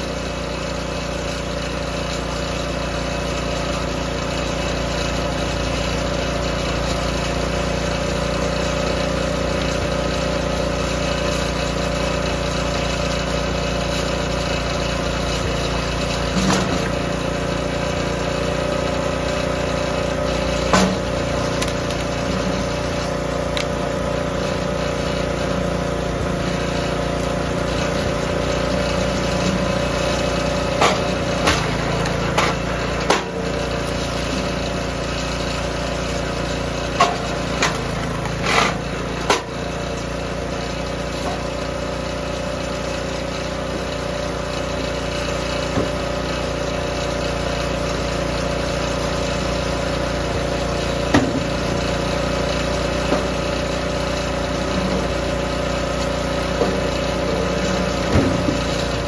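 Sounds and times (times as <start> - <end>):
small gas engine running: 0.0 - 59.0.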